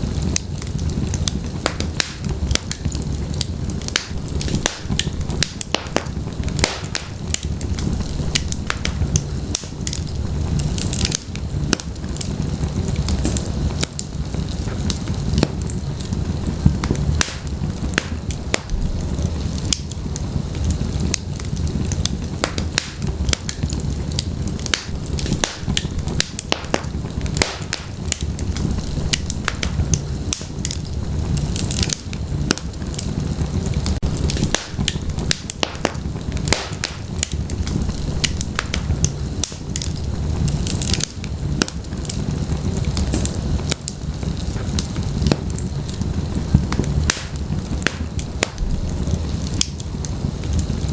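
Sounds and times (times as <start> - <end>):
fire rumbling in fireplace: 0.0 - 50.9
logs crackling and popping: 0.0 - 50.9.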